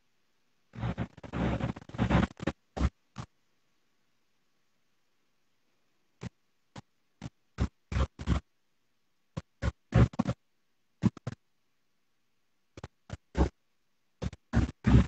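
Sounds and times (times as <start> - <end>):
crackling static: 0.0 - 15.0.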